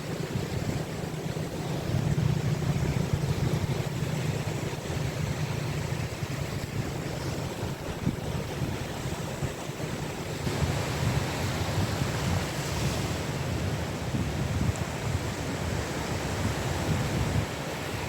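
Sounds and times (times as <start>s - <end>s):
sea waves breaking: 0.0s - 18.0s
wind on microphone: 0.0s - 18.0s.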